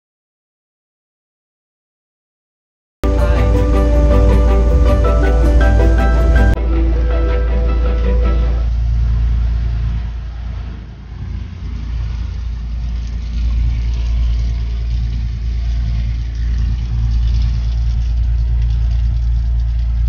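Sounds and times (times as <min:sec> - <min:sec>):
boat engine drone: 0:03.0 - 0:20.0.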